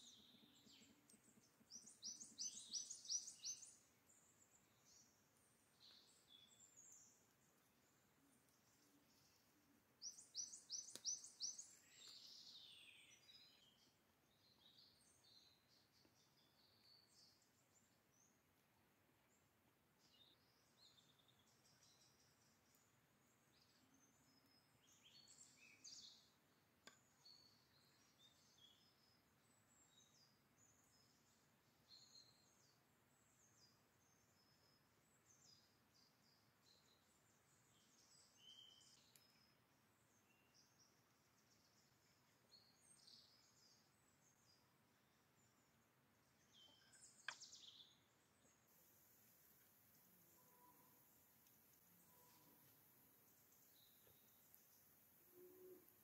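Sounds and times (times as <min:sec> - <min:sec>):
quiet background hiss: 0:00.0 - 0:56.0
small birds chirping: 0:00.0 - 0:56.0.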